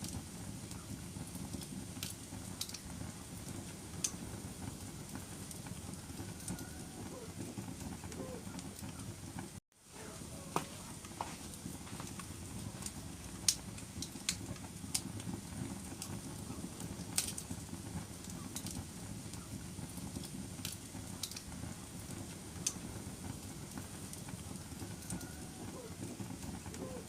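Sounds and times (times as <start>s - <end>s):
fire crackling and popping: 0.0s - 27.0s
fire flames rumbling: 0.0s - 27.0s.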